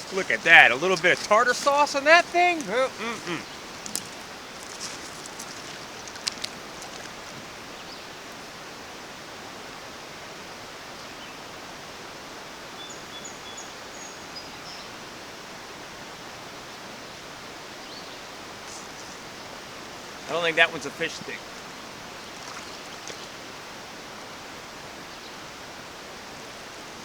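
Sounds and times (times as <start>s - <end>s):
rushing stream: 0.0s - 12.8s, 14.9s - 27.0s.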